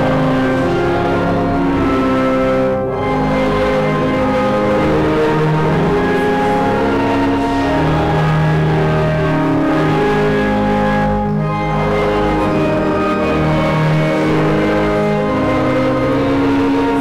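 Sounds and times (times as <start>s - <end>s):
hymn with long held chords: 0.0s - 17.0s.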